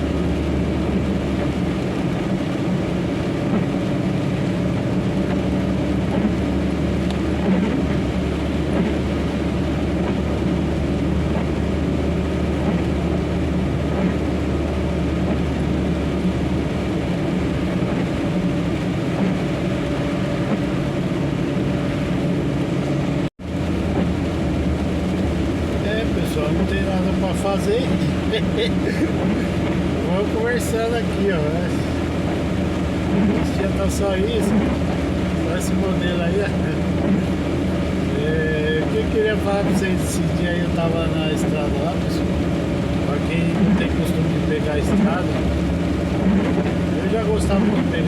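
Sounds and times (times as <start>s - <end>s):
vehicle engine and road noise: 0.0s - 48.0s.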